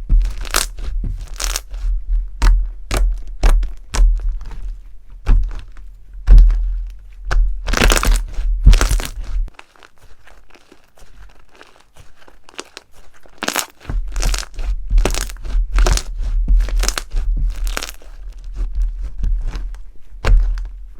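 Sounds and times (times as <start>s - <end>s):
crunchy slime cracking: 0.1s - 4.7s, 5.4s - 20.8s.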